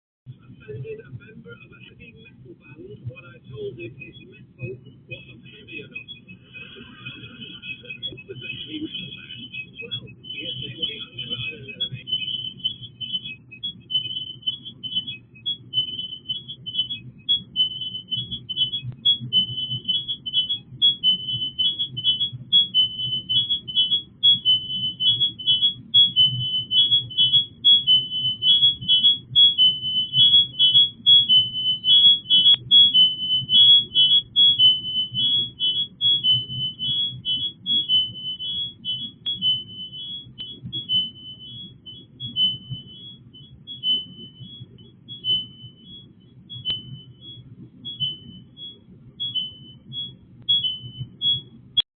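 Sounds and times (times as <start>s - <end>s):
low steady hum: 0.3s - 51.8s
electronic high-pitched chirps: 4.6s - 51.9s.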